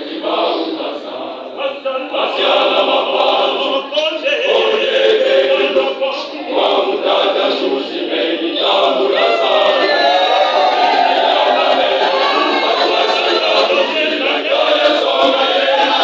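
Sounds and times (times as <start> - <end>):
choir singing: 0.0 - 16.0.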